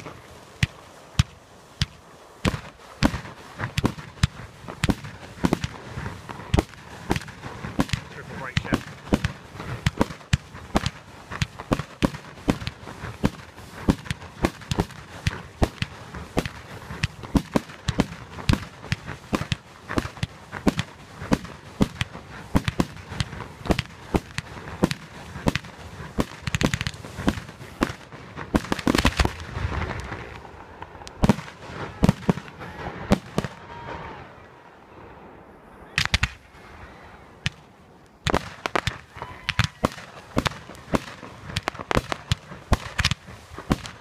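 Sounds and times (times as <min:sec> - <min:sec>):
fireworks bangs: 0:00.0 - 0:44.0
fireworks crackle: 0:00.0 - 0:44.0.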